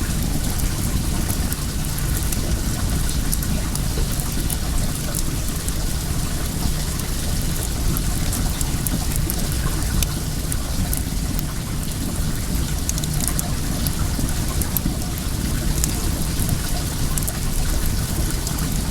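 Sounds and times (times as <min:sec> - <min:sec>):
flowing water rushing: 0:00.0 - 0:18.9
wood fire crackling: 0:00.0 - 0:18.9.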